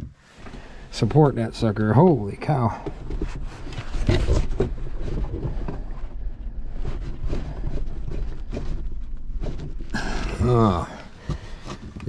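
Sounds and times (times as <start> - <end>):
hands rustling and knocking panel: 2.0 - 12.0.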